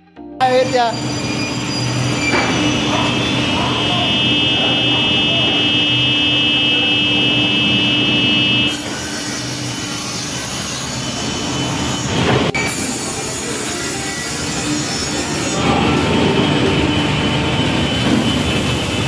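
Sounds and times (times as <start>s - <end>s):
panel saw high whine: 0.4s - 19.0s
saw machine noise: 0.4s - 19.0s.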